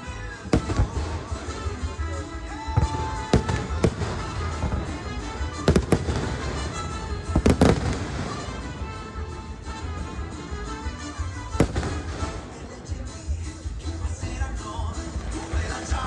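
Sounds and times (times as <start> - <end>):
fireworks bangs: 0.1 - 13.4.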